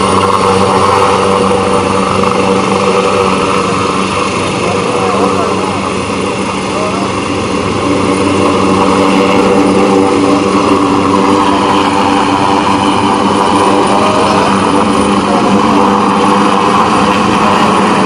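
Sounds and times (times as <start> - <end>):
helicopter flying overhead: 0.0 - 18.0.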